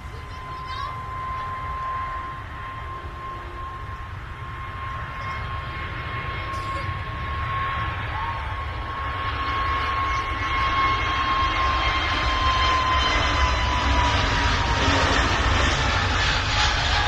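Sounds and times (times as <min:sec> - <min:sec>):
high jet engine whine: 0:00.0 - 0:17.0
jet engines roaring: 0:00.0 - 0:17.0.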